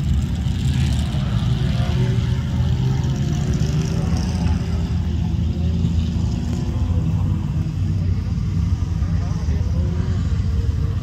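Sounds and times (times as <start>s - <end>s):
faint voices: 0.0s - 11.0s
off-road vehicle engines droning: 0.0s - 11.0s.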